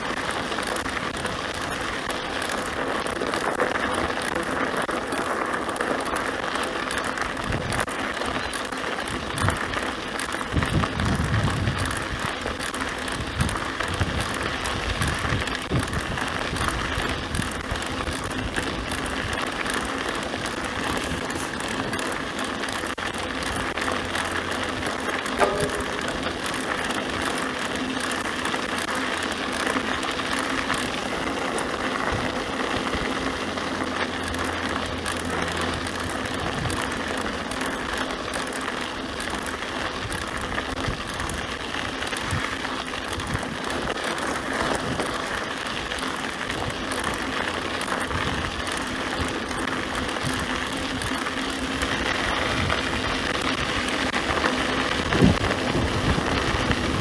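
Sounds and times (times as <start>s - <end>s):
bike rattling and clicking: 0.0s - 57.0s
bike tyre noise on dirt: 0.0s - 57.0s.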